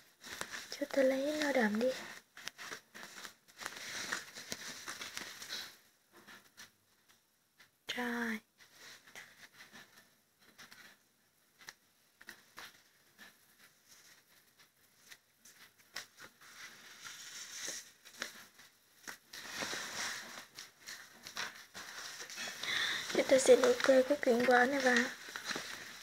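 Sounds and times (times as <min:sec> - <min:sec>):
paper rustling: 0:00.0 - 0:07.1, 0:08.6 - 0:26.0.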